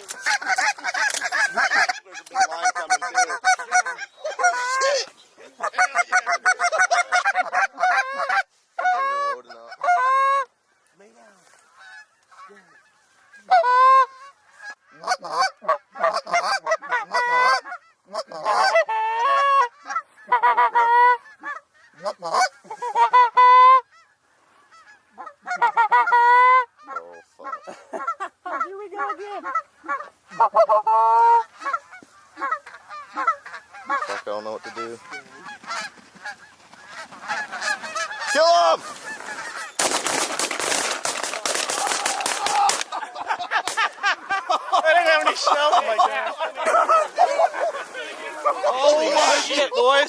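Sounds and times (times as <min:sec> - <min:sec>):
geese honking and clucking: 0:00.0 - 0:50.0.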